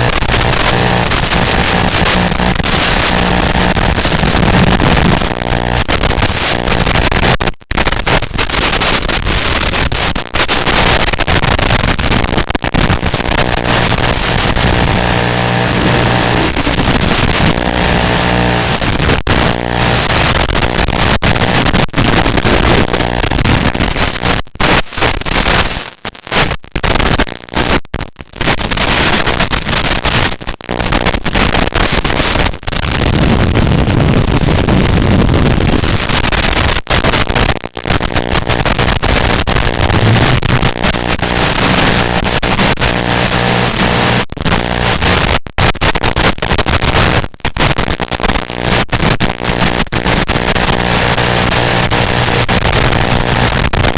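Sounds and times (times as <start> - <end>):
static hiss with low buzz: 0.0 - 53.9.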